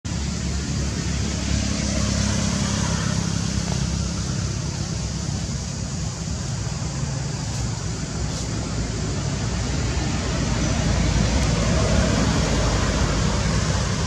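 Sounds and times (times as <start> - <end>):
even hiss: 0.1 - 14.0.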